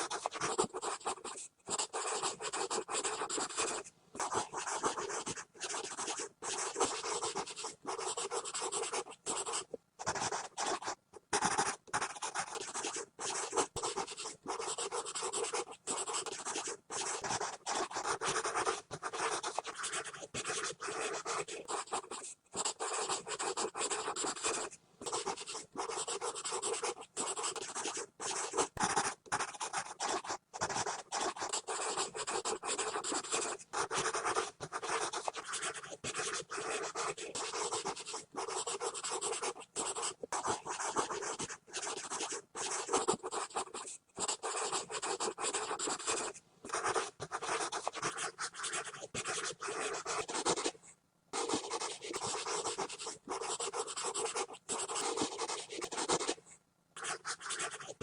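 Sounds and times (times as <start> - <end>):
pencil scribbling on paper: 0.0 - 50.8, 51.4 - 56.4, 57.0 - 58.0.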